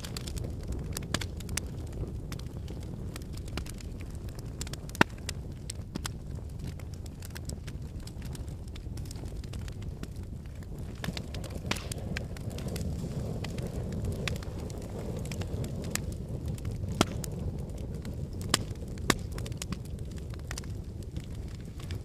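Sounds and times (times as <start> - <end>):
sharp fire pops: 0.0 - 22.0
wood fire crackling: 0.0 - 22.0.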